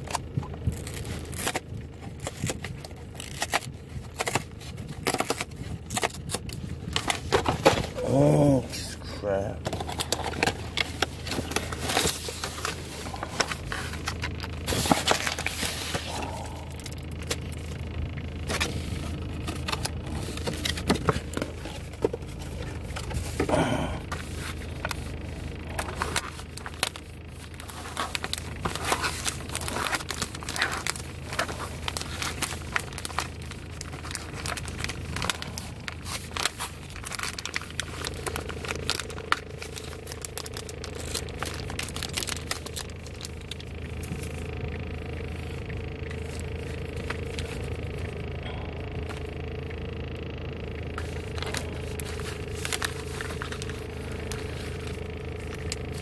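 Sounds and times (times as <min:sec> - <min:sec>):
plastic packaging crinkling and tearing: 0:00.0 - 0:08.6, 0:09.6 - 0:48.0, 0:50.9 - 0:56.0
steady low hum: 0:00.0 - 0:56.0.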